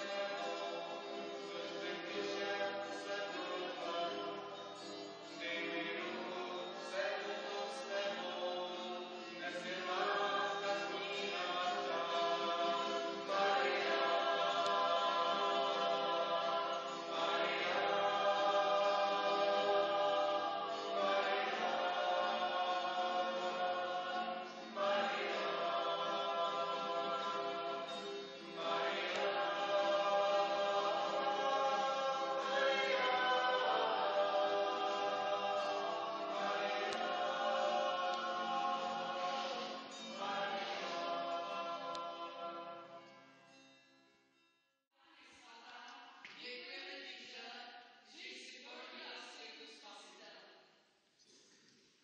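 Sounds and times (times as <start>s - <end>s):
group singing a carol: 0.0s - 43.8s.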